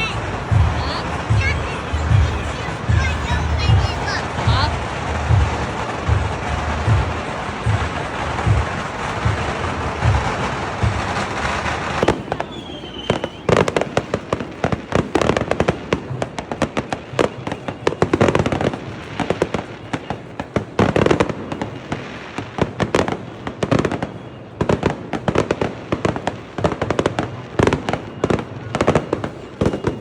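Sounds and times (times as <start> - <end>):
firecrackers banging: 0.0 - 30.0.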